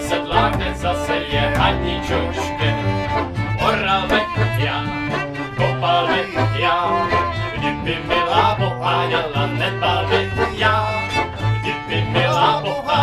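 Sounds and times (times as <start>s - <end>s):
folk music with bass beat: 0.0s - 13.0s.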